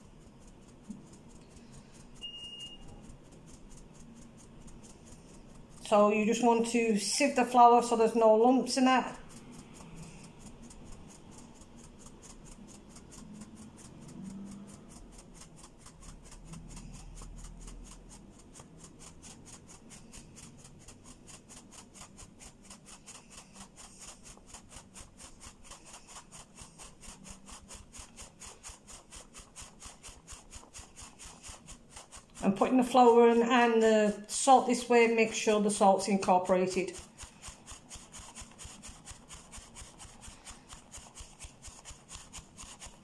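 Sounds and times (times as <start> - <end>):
sieve rustling: 0.0 - 43.0.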